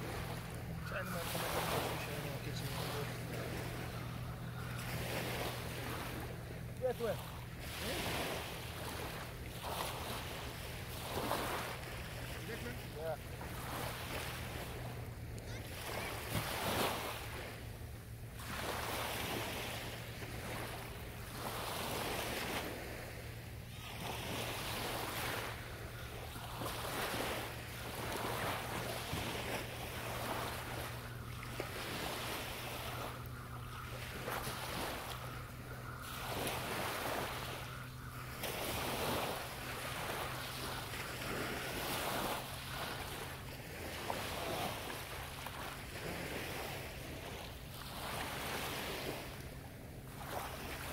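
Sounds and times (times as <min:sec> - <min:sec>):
small waves breaking on beach: 0:00.0 - 0:50.9
steady low hum: 0:00.0 - 0:50.9.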